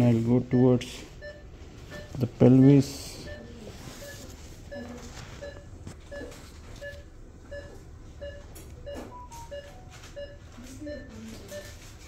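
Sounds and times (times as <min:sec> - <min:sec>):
low room hum: 0:00.0 - 0:12.0
patient monitor pulse beeps: 0:00.4 - 0:12.0.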